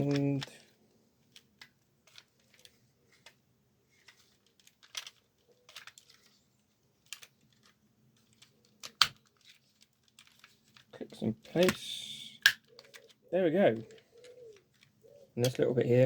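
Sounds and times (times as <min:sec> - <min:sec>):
plastic parts clicking and tapping: 0:00.0 - 0:16.0.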